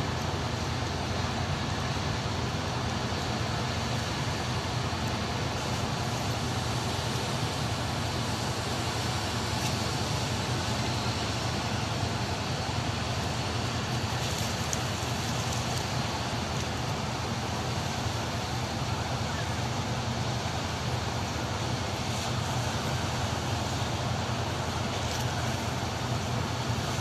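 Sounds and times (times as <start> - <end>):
ship engines humming: 0.0 - 27.0.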